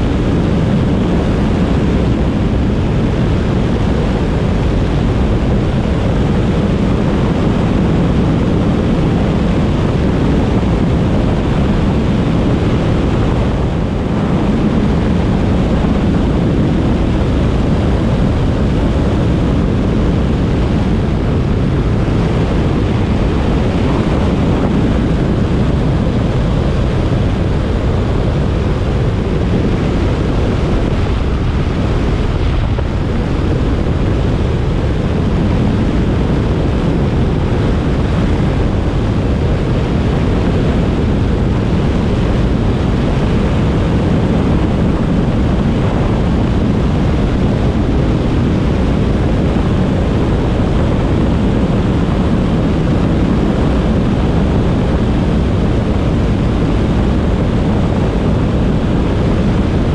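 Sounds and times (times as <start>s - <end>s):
air rushing over glider: 0.0s - 59.9s.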